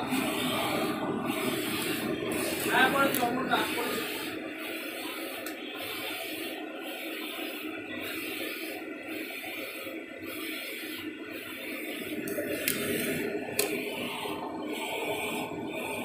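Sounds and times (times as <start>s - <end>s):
printer machine whir and hiss: 0.0s - 16.0s.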